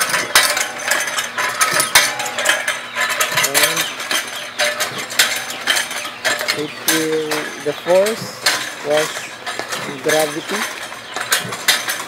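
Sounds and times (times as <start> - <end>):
well-drilling machine clanking: 0.0 - 12.0.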